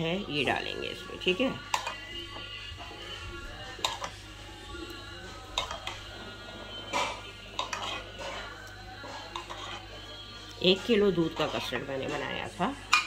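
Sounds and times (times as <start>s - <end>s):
spoon scraping a pan: 0.5s - 13.0s.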